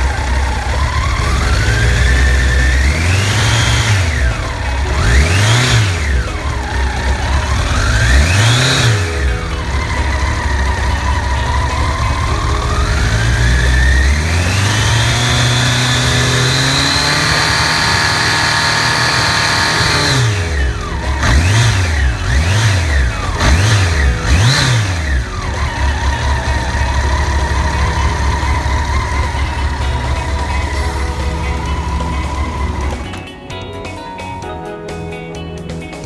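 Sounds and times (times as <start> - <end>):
motorcycle engine revving: 0.0 - 34.4.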